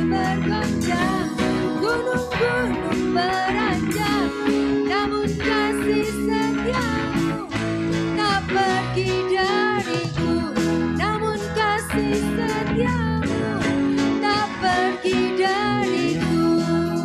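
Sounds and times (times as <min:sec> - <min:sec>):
drum kit: 0:00.0 - 0:17.0
electric bass: 0:00.0 - 0:17.0
electric guitar: 0:00.0 - 0:17.0
keyboard: 0:00.0 - 0:17.0
woman singing: 0:00.0 - 0:17.0.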